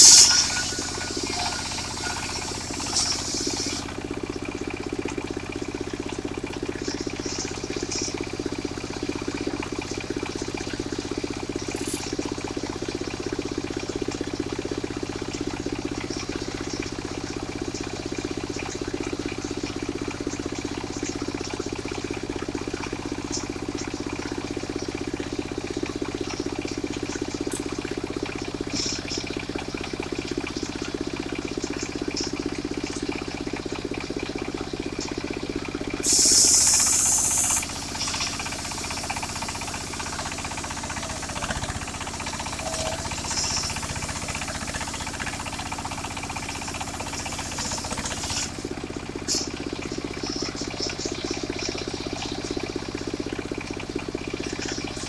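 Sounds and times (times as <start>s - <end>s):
sawmill engine humming: 0.0s - 55.0s.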